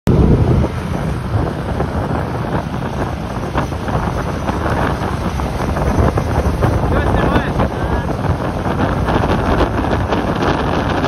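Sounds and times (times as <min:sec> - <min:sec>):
motorbike engine hum: 0:00.1 - 0:11.0
traffic: 0:00.1 - 0:11.0
wind buffeting microphone: 0:00.1 - 0:11.0.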